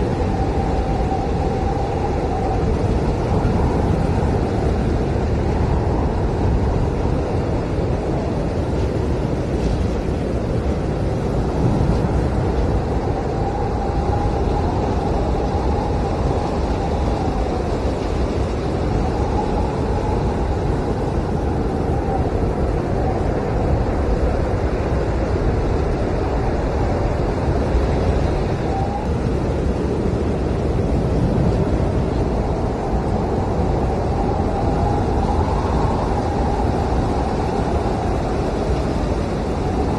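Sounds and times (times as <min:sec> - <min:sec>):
blizzard wind howling: 0:00.0 - 0:39.9.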